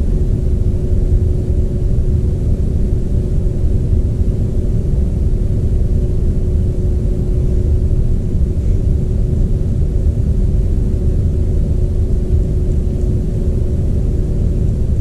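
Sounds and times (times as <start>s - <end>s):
faint hum: 0.0s - 15.0s
low machinery rumble: 0.0s - 15.0s.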